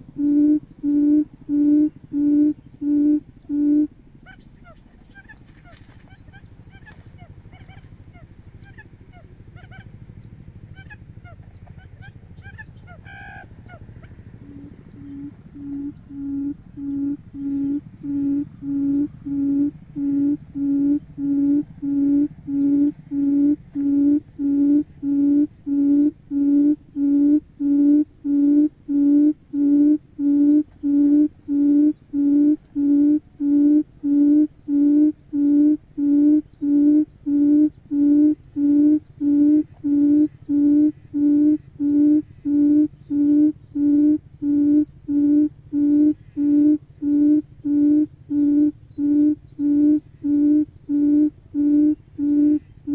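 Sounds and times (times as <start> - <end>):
bird low booming hoots: 0.0 - 52.9.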